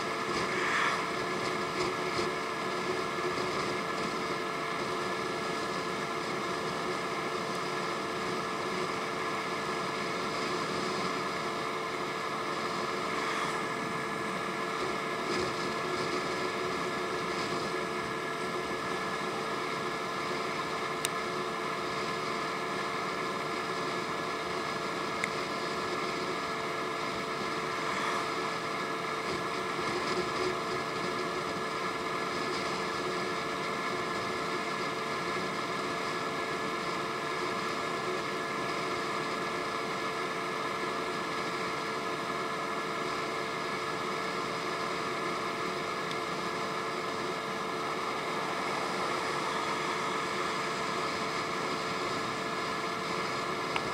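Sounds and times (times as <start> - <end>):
wind and road noise: 0.0 - 53.9.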